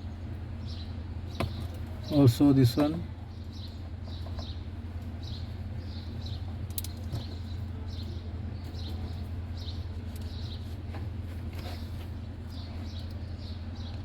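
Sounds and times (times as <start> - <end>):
small bird chirping: 0.0 - 2.4, 3.2 - 10.8, 11.6 - 14.0
low background hum: 0.0 - 14.0.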